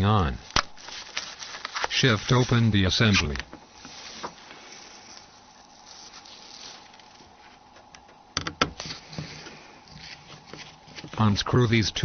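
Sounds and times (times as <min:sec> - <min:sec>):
quiet hiss: 0:00.0 - 0:12.0.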